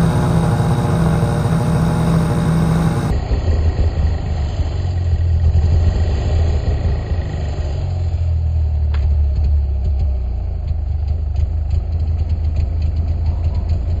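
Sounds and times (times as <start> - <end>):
snowmobile engine idling: 0.0 - 14.0.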